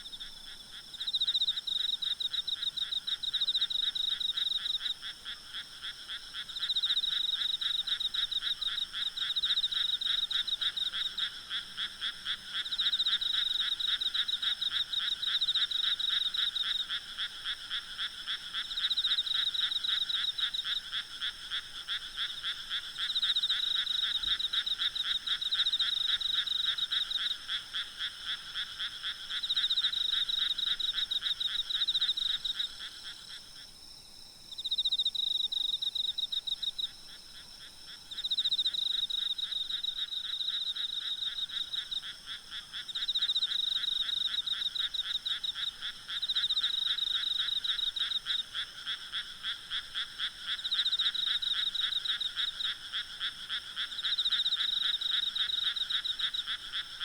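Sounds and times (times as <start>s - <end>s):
frogs calling: 0.0s - 33.6s, 34.5s - 57.0s.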